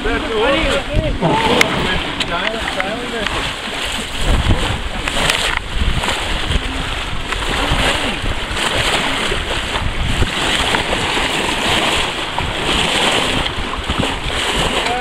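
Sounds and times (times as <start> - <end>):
water splashing along boat bow: 0.0 - 15.0
wind rumble on microphone: 0.0 - 15.0.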